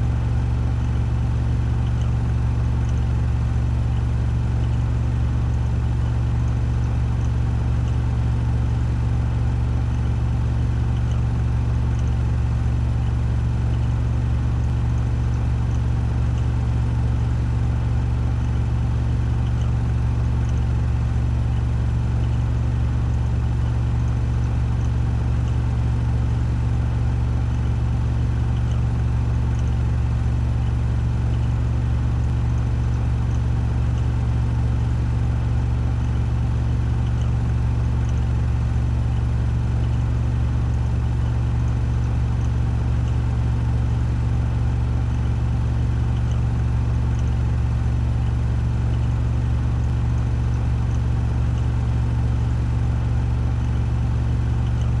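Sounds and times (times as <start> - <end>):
washing machine spin cycle hum: 0.0 - 55.0.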